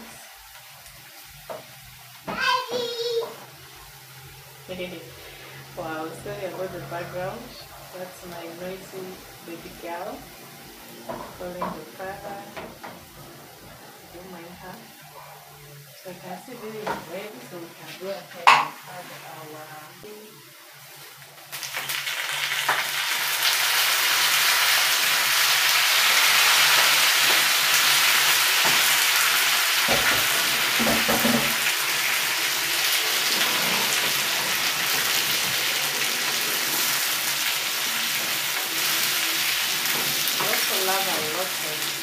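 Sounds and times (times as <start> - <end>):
onions sizzling in hot oil: 0.0 - 42.0.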